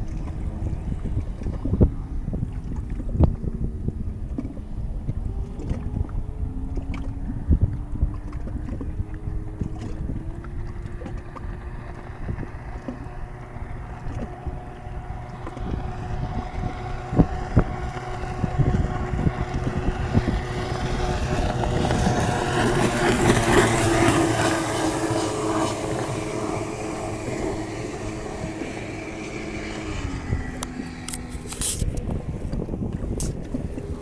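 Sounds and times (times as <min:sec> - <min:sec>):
watercraft engine passing at full throttle: 0:00.0 - 0:34.0.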